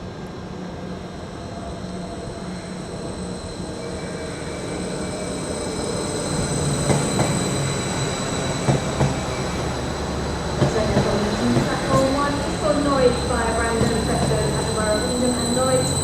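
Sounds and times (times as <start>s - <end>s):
train approaching: 0.0s - 16.0s
wheels squealing on rails: 1.4s - 16.0s.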